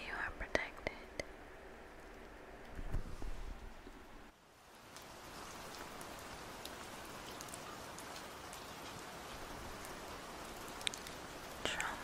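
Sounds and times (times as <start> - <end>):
rain-like patter: 0.0 - 12.0.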